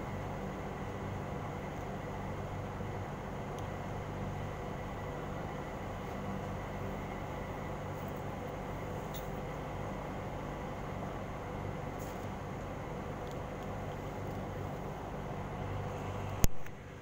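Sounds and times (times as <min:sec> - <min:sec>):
street noise hum: 0:00.0 - 0:17.0.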